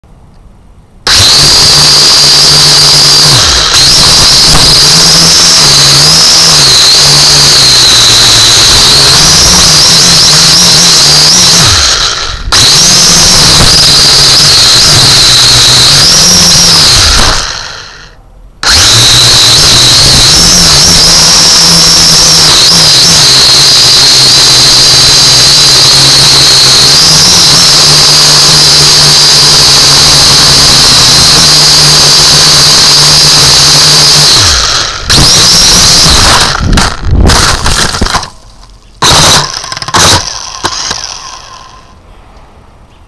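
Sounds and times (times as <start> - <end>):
drone motors whining: 0.0 - 43.0.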